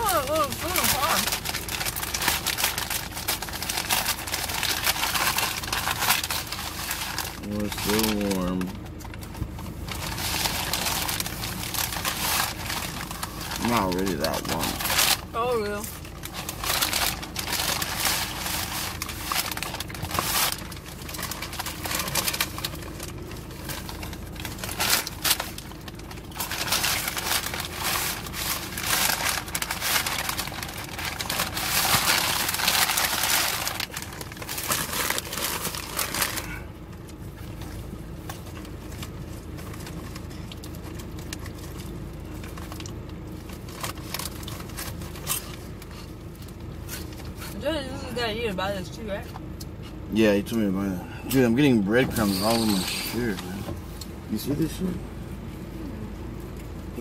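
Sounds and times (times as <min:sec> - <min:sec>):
plastic wrapper crinkling: 0:00.0 - 0:47.5, 0:51.3 - 0:54.1.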